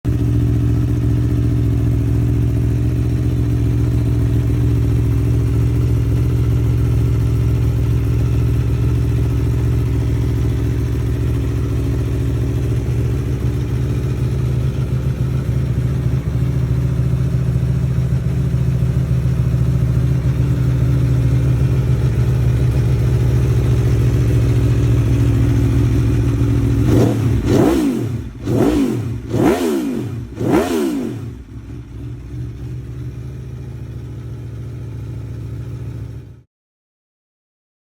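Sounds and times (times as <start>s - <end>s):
motorcycle engine idling and revving: 0.1s - 36.5s.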